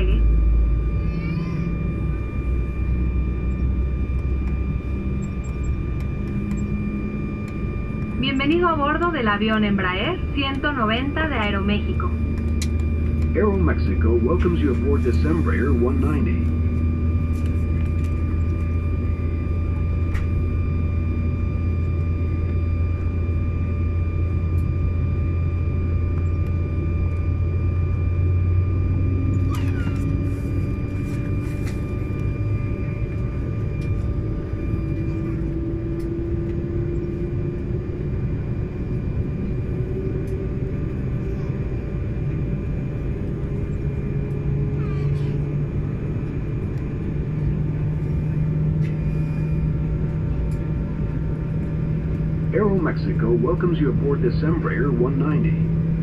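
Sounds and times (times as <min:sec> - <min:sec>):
aircraft cabin rumble: 0:00.0 - 0:56.0
deep hum: 0:00.0 - 0:56.0
jet engine whining tones: 0:00.0 - 0:56.0.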